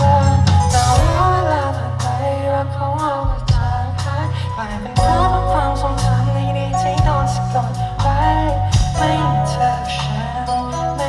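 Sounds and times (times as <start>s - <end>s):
live band playing pop-rock: 0.0s - 11.0s.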